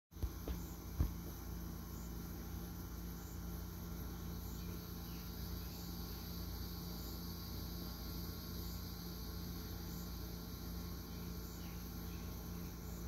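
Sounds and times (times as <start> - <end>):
low steady hum: 0.1 - 13.0
insects chirring: 0.2 - 13.0.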